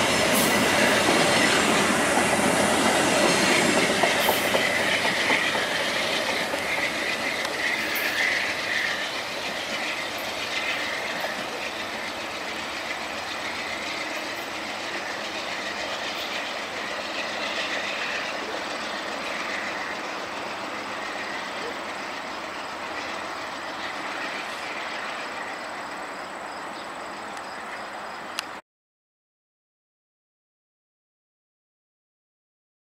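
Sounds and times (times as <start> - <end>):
train wheels rolling on rails: 0.0 - 28.6.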